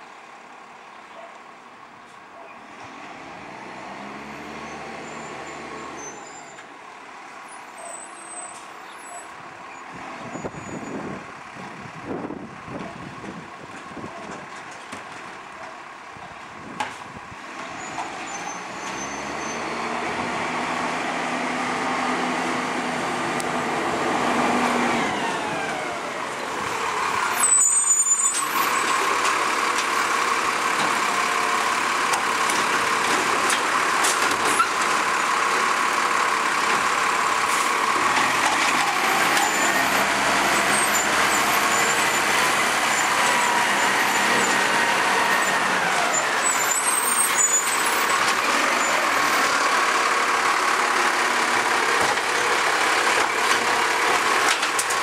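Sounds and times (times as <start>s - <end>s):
garbage truck diesel engine: 0.0s - 55.0s.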